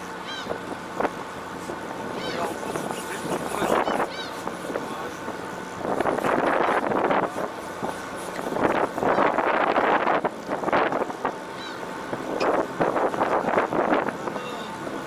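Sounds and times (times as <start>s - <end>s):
boat at sea: 0.0s - 15.0s
wind buffeting microphone: 0.0s - 15.0s.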